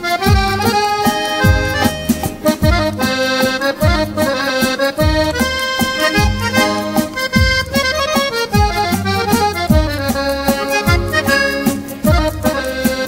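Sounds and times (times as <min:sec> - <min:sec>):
piano accordion melody: 0:00.0 - 0:13.0
regular low thump: 0:00.2 - 0:12.8.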